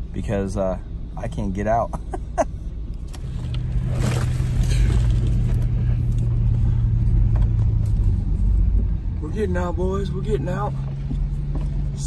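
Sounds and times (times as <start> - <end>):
van engine running under load: 0.0 - 12.0.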